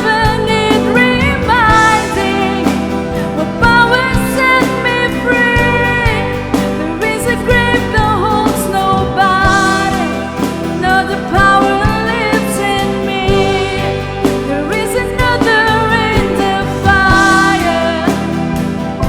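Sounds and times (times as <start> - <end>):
band playing worship song: 0.0 - 19.0
person singing melody: 0.0 - 19.0.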